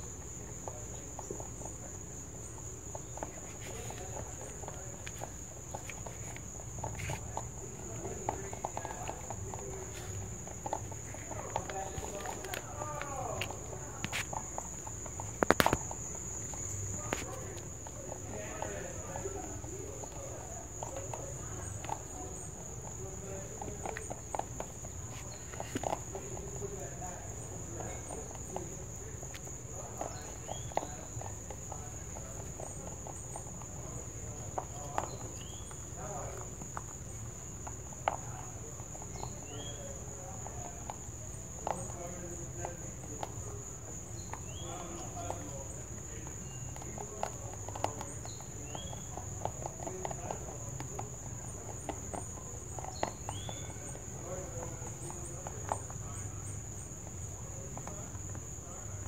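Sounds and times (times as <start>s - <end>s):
rabbit crunching dry pellets: 0.0s - 59.0s.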